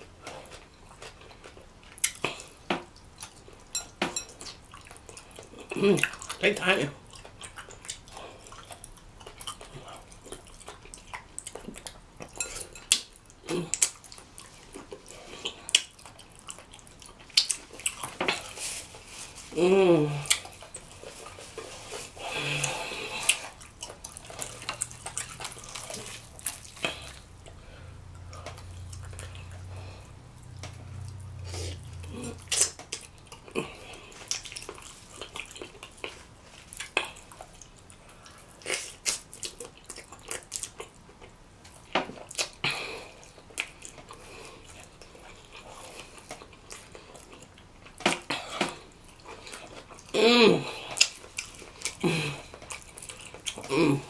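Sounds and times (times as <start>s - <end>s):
wet chewing and lip smacking: 0.0s - 19.2s, 20.2s - 54.0s.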